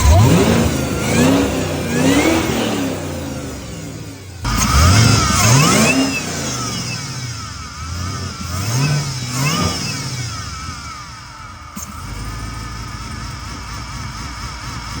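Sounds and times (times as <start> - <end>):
car engine revving: 0.0 - 15.0
supercharger whine: 0.0 - 15.0.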